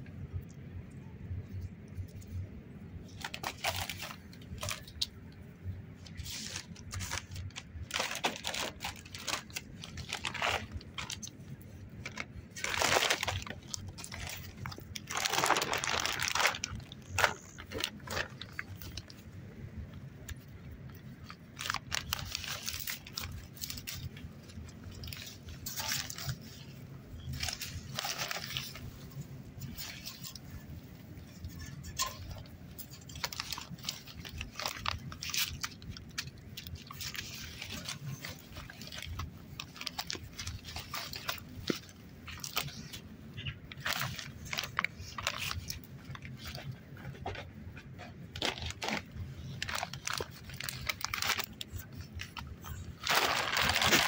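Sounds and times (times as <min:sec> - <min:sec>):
puppy scrambling on plastic and leaves: 0:06.1 - 0:19.1, 0:21.6 - 0:54.0.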